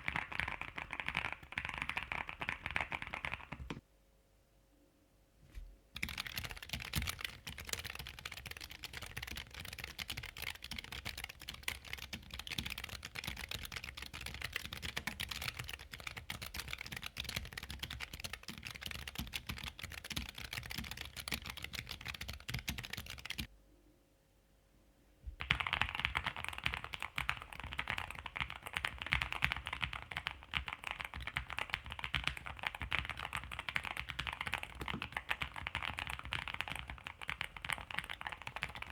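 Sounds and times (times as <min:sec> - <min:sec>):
mechanical keyboard typing: 0:00.0 - 0:03.8, 0:06.0 - 0:23.5, 0:25.4 - 0:38.9.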